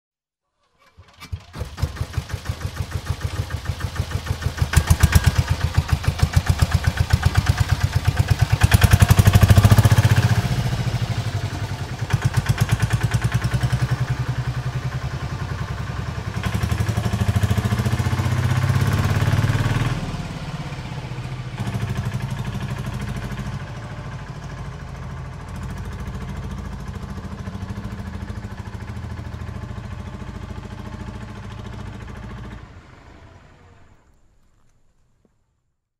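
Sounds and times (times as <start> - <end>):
diesel engine knocking: 1.5 - 33.5.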